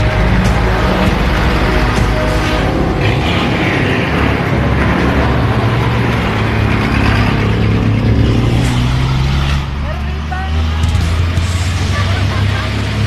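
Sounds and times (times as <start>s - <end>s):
rushing travel noise: 0.0s - 13.0s
vehicle engine running: 0.0s - 13.0s.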